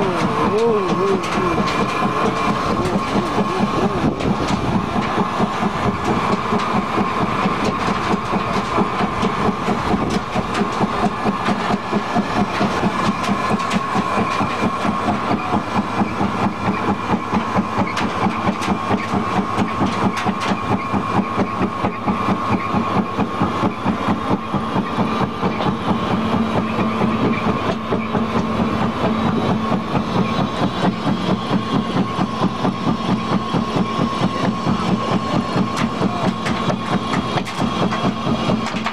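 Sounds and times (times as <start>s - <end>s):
machine motor drone with pulsing: 0.0s - 38.9s.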